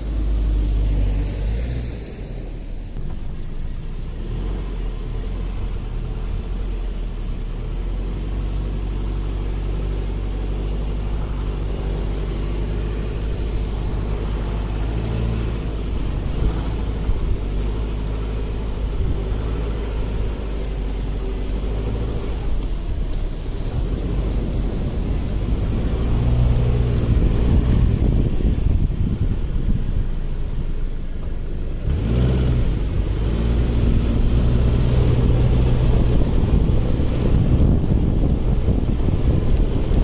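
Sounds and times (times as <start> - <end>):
car engine running: 0.0 - 40.0
tyres churning in sand: 0.0 - 40.0.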